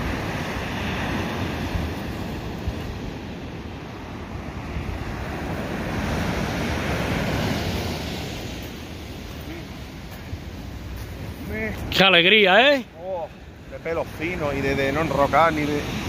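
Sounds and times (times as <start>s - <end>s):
sea surf washing ashore: 0.0s - 16.0s.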